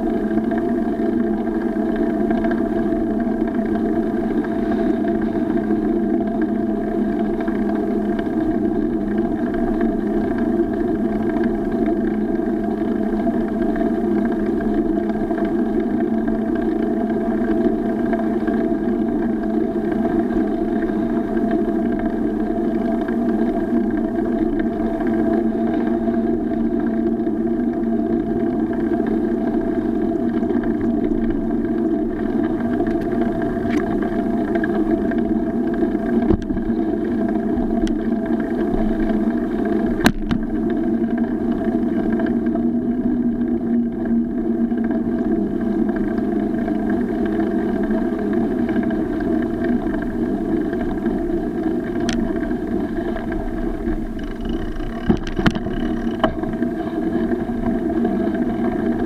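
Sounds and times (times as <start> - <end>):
bicycle road rumble: 0.0 - 59.0
wind: 0.0 - 59.0.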